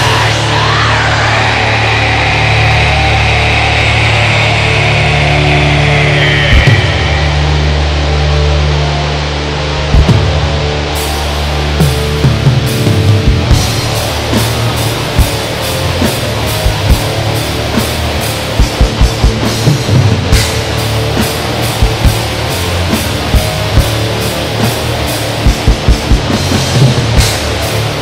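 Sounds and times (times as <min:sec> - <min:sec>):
distorted guitar: 0:00.0 - 0:28.0
drums: 0:00.0 - 0:28.0.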